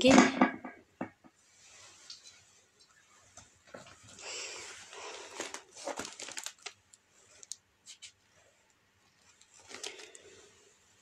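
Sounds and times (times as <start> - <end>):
rustling and crinkling: 1.4 - 11.0.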